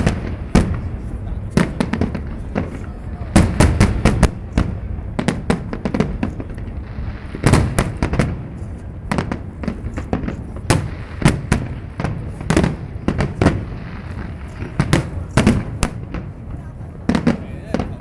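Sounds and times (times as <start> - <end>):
distant low rumble: 0.0 - 18.0
fireworks bursting: 0.0 - 18.0.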